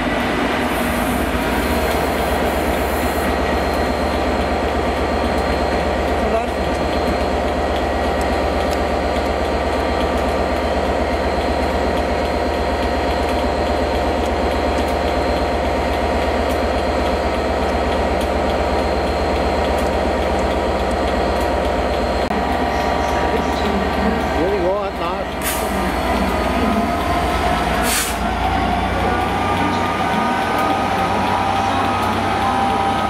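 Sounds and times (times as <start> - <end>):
diesel locomotive engines idling: 0.0 - 33.0.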